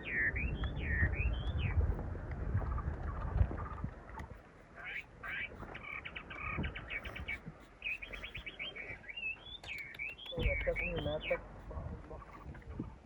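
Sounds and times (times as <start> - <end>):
small birds chirping: 0.0 - 1.9, 2.5 - 13.0.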